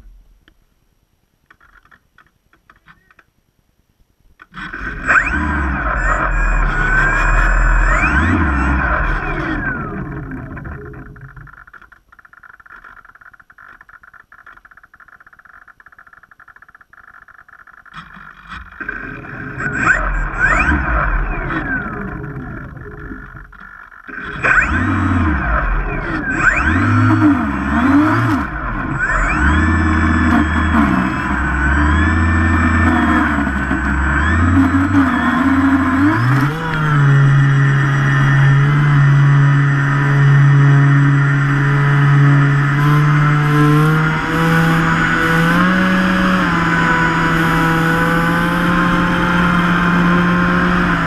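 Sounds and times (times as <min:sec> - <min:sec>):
model plane electric motors whining: 0:04.5 - 0:51.0.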